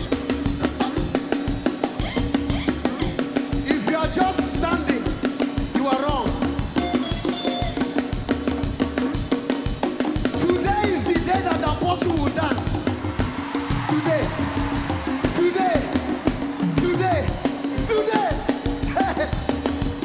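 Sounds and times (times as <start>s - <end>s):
drum kit and percussion: 0.0s - 20.0s
upbeat live band playing: 0.0s - 20.0s.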